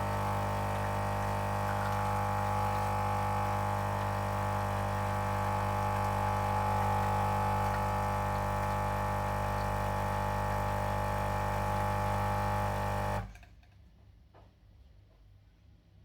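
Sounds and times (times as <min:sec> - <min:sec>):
coffee machine buzzing: 0:00.0 - 0:13.3.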